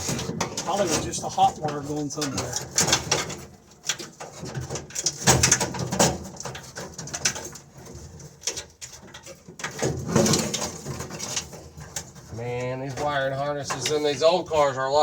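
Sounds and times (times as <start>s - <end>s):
hands clicking and knocking wiring: 0.0s - 15.0s.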